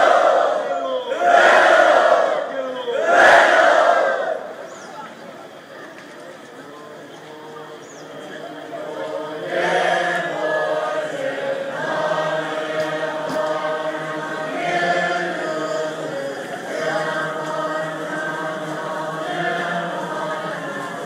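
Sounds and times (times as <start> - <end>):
crowd of monks chanting: 0.0 - 4.7, 6.6 - 21.0.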